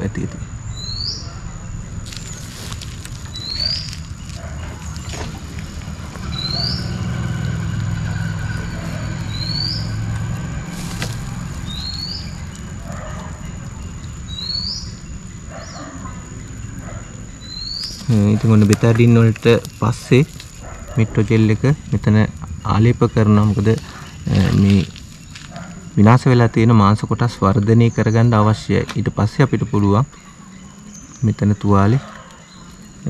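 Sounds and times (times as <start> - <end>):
steady low rumble: 0.0 - 26.8.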